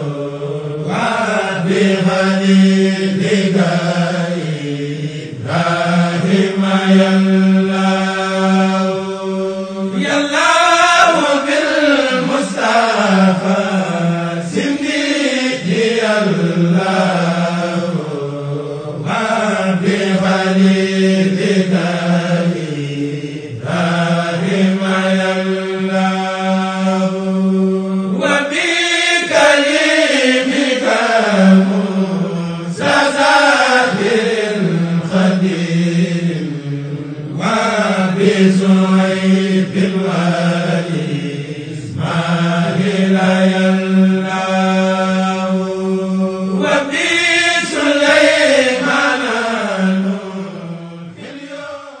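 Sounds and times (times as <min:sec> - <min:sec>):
person chanting religious poem: 0:00.0 - 0:52.0.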